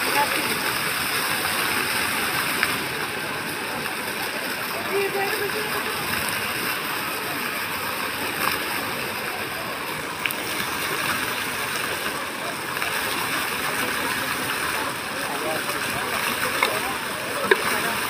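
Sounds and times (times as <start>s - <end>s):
fountain jets splashing: 0.0s - 18.0s.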